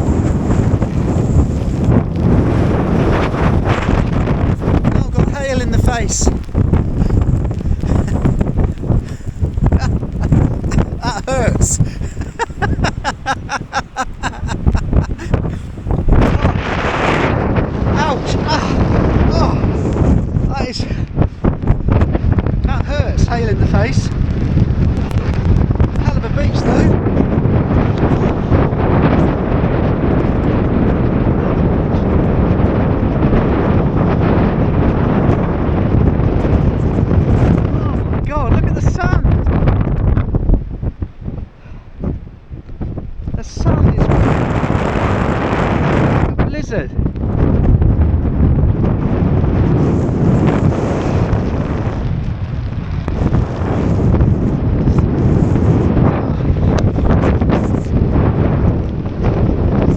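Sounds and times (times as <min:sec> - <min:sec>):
strong wind buffeting microphone: 0:00.0 - 0:59.9.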